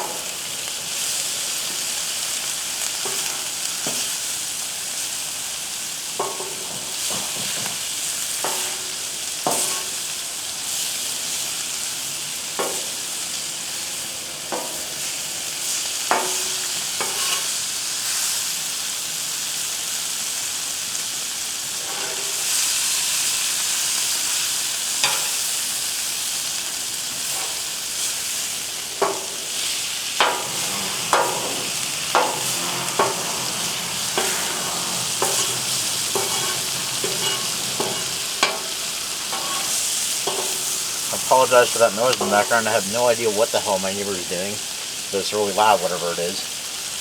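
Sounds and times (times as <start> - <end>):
food sizzling on a griddle: 0.0 - 47.0.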